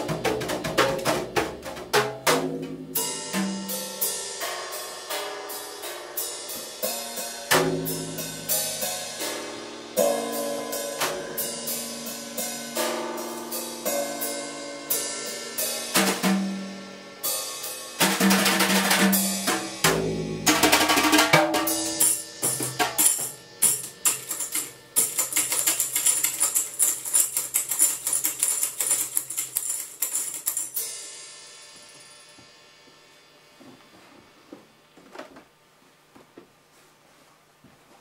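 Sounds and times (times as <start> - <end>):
drum kit playing: 0.0 - 32.8.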